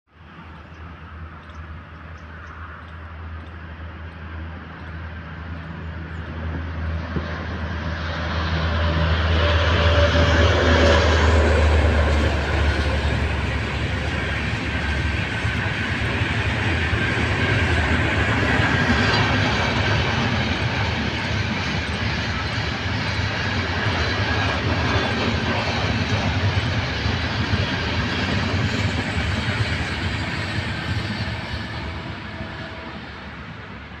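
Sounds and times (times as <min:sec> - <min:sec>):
train wheels rumbling on rails: 0:00.1 - 0:34.0.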